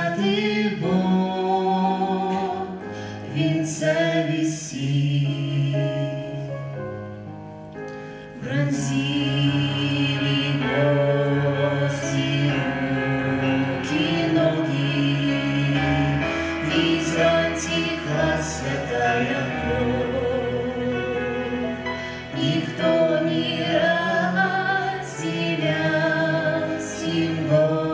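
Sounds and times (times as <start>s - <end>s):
choir singing: 0.0s - 6.5s, 8.4s - 27.9s
musical accompaniment: 0.0s - 27.9s.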